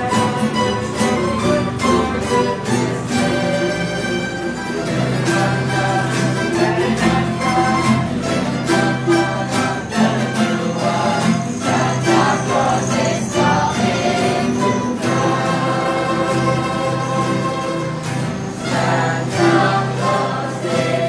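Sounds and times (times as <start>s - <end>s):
plucked string ensemble: 0.0s - 21.0s
voices singing along: 0.0s - 21.0s.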